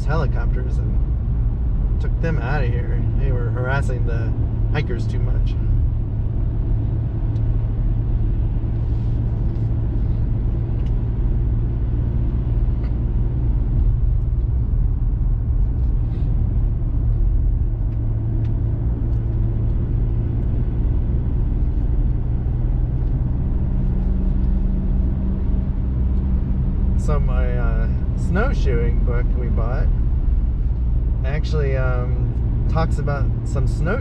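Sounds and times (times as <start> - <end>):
engine and road rumble inside vehicle: 0.0 - 34.0.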